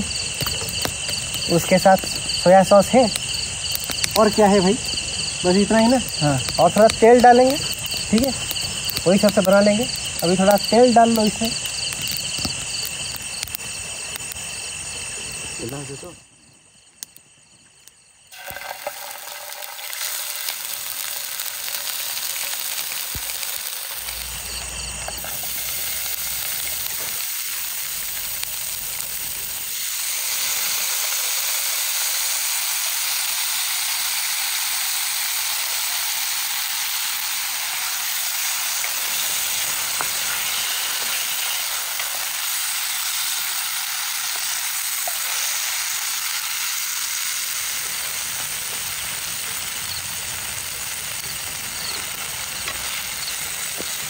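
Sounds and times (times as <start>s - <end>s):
food sizzling in hot oil: 0.0s - 16.2s, 17.1s - 54.0s.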